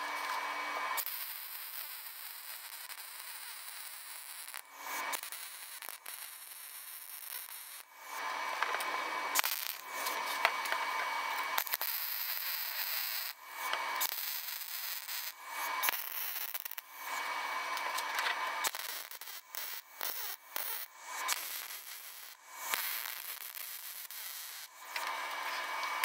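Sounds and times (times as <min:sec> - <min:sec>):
welding arc crackling and hissing: 0:00.0 - 0:26.0.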